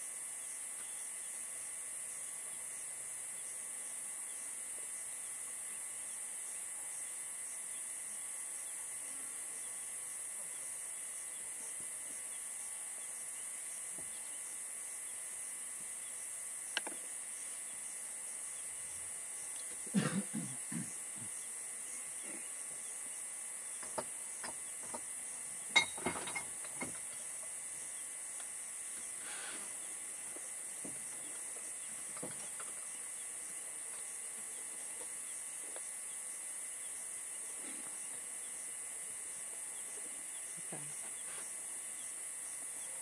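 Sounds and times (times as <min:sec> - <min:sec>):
high-pitched recording hiss: 0:00.0 - 0:43.0.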